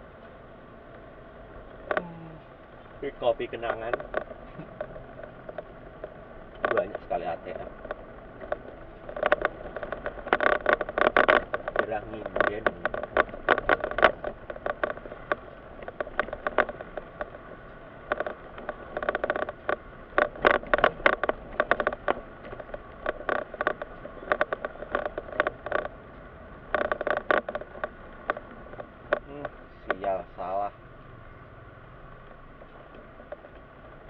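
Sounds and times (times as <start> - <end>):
faint low road hum: 0.0 - 34.0
rattling scraping clicks in car: 0.0 - 34.0.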